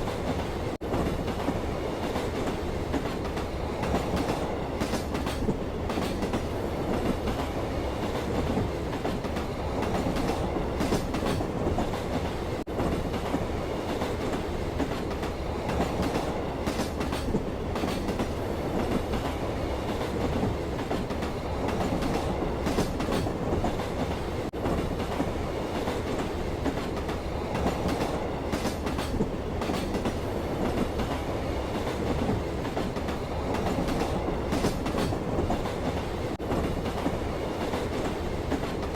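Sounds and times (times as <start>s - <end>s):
train wheels rumbling on rail: 0.0s - 38.9s
wheels clicking over rail joints: 0.0s - 38.9s.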